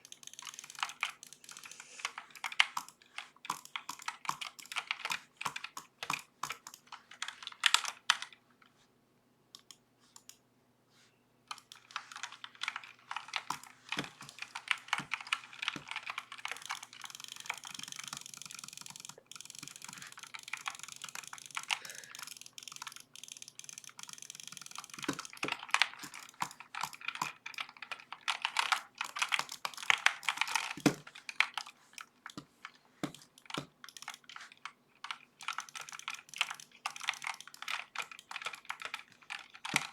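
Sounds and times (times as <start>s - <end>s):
mechanical keyboard typing: 0.0s - 8.4s, 11.5s - 39.9s.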